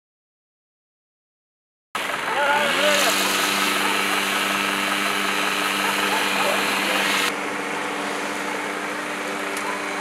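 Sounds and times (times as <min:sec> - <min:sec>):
engine running high pitch: 0:02.0 - 0:10.0.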